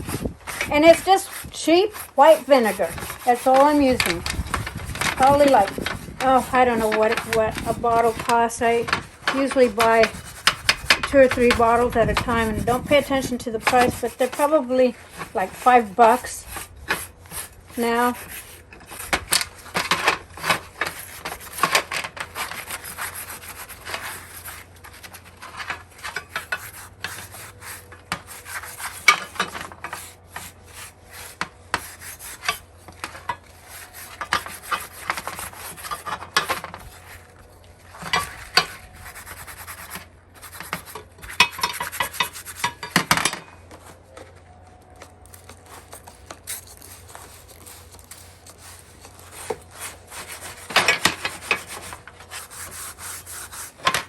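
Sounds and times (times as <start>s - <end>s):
sponge scrubbing metal: 0.0s - 37.3s, 37.9s - 43.0s, 45.8s - 54.0s.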